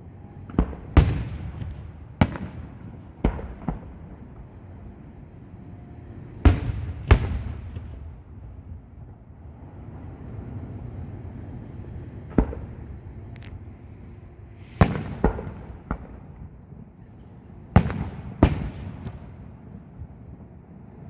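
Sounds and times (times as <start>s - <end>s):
fireworks bangs with rumbling echo: 0.4s - 5.5s, 6.2s - 10.7s, 12.1s - 20.6s.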